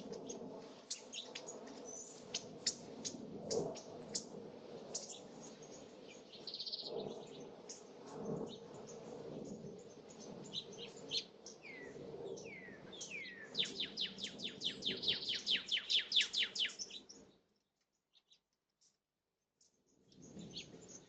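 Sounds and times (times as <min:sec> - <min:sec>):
small birds chirping: 0:00.0 - 0:02.8, 0:04.9 - 0:18.5, 0:19.7 - 0:21.0.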